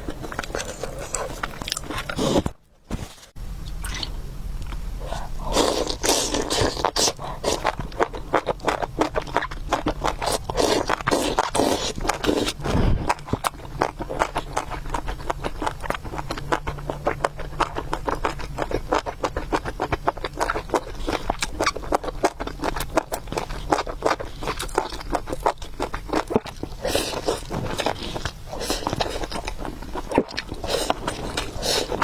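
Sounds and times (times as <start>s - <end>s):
wet chewing of noodles: 0.0s - 2.6s, 3.7s - 32.0s.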